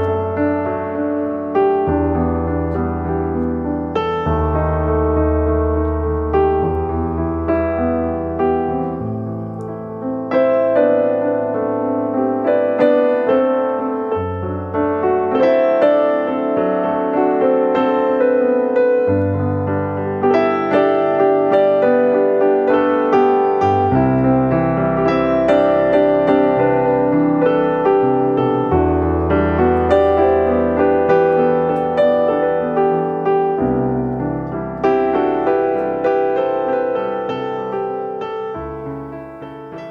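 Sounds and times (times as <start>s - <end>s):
gentle piano chords: 0.0s - 39.9s.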